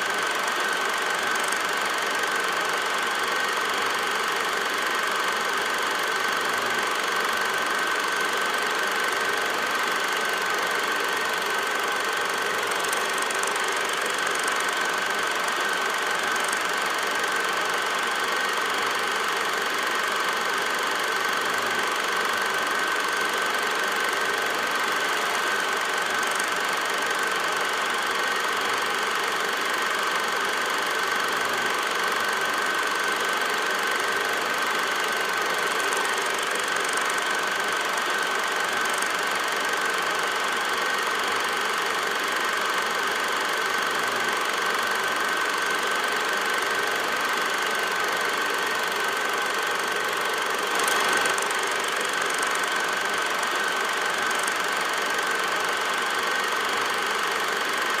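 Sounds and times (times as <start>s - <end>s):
film projector running: 0.0s - 58.0s.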